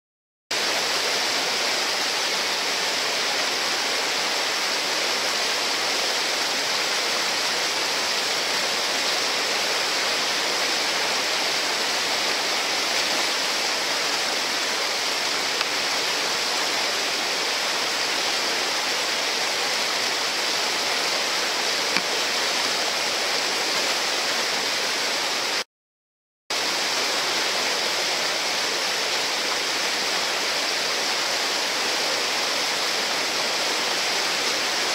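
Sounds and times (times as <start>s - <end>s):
whitewater rushing: 0.6s - 25.6s, 26.6s - 34.9s.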